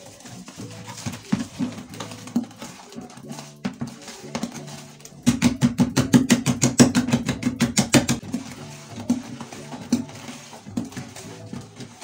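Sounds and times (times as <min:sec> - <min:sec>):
background music: 0:00.0 - 0:12.0
stick knocking plastic bucket: 0:00.0 - 0:12.0.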